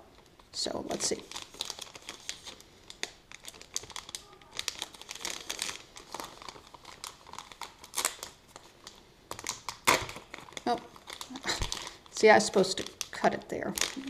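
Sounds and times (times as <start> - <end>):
paper wrapper crinkling: 0.1 - 14.0.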